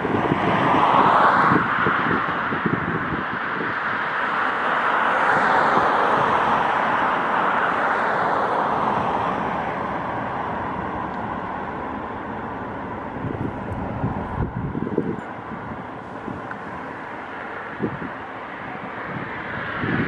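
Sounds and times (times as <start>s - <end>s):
vehicle passing by: 0.0s - 20.0s
wind buffeting microphone: 0.0s - 20.0s.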